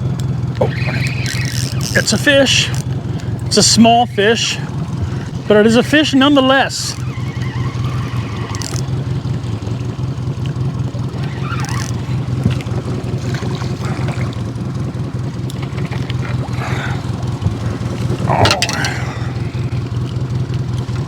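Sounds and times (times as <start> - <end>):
outboard motor idling: 0.0 - 21.0.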